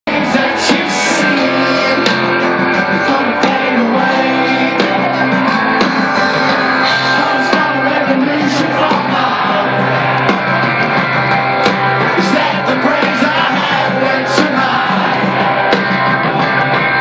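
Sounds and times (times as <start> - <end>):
live rock band playing: 0.1 - 17.0.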